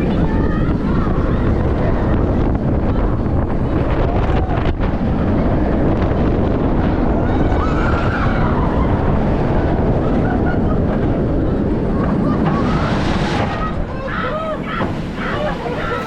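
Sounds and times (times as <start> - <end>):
roller coaster running: 0.0 - 16.0
wind on microphone: 0.0 - 16.0.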